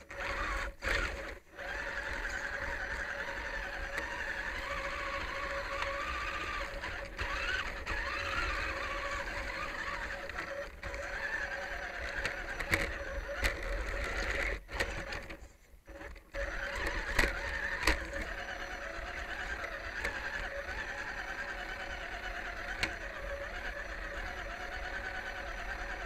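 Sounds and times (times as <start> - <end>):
small electric motor whining: 0.0 - 26.0.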